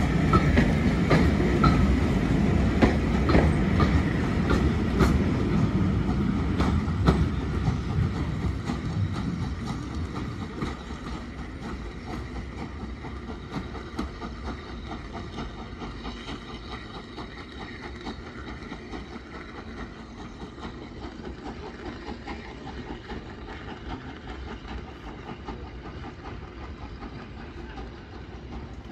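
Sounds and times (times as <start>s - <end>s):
rumble of train coaches: 0.0s - 28.9s
steam locomotive exhaust beat: 0.0s - 28.9s.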